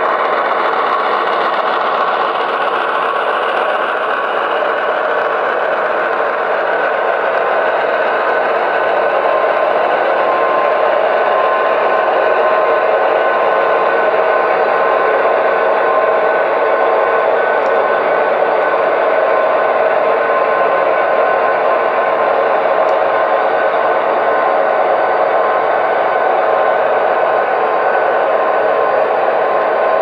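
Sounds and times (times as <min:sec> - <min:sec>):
model diesel engine sound: 0:00.0 - 0:30.0
model freight cars rolling: 0:00.0 - 0:30.0.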